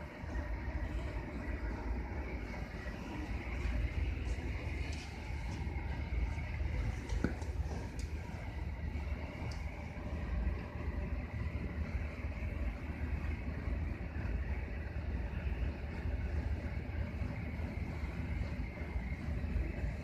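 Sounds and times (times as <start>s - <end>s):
faint high hum: 0.0s - 20.0s
low rumble of ship machinery: 0.0s - 20.0s.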